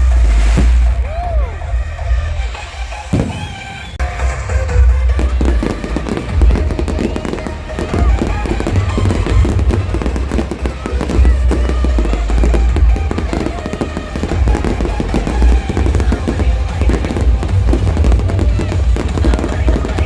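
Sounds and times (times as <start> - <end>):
fireworks booming and crackling: 0.0 - 20.0
music playing: 0.0 - 20.0.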